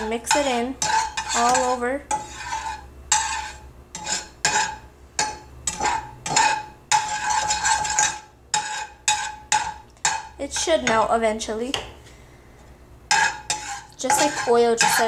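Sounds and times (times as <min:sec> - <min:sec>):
metal utensil scraping frying pan: 0:00.0 - 0:11.2, 0:13.0 - 0:15.0.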